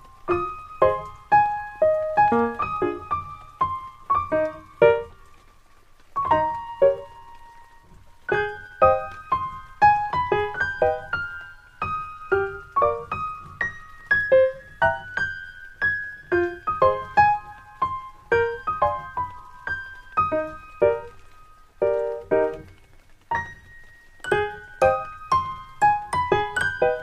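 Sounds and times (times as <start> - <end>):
gentle piano music: 0.0 - 27.0.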